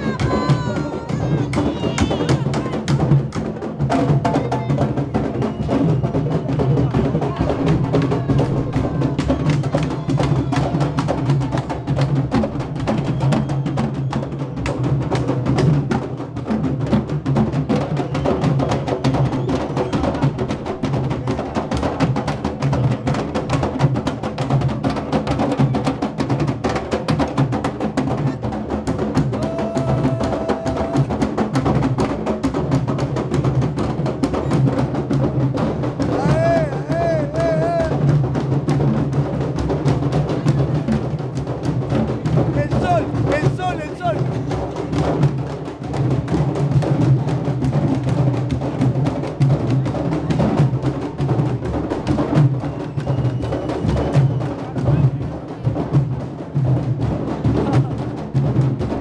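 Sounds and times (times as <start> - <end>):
group drumming: 0.0 - 59.0.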